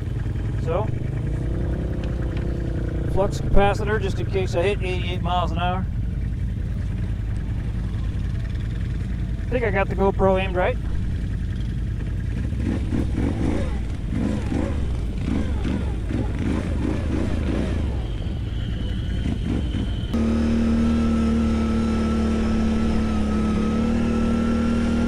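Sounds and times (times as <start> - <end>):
atv engines revving: 0.0 - 25.0
steady whine: 0.0 - 25.0.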